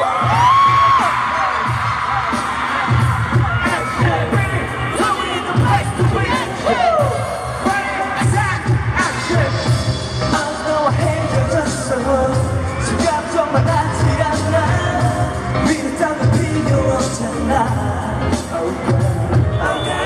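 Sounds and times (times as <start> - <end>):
heavy bass beat: 0.0 - 19.5
pop song with singing: 0.0 - 20.0.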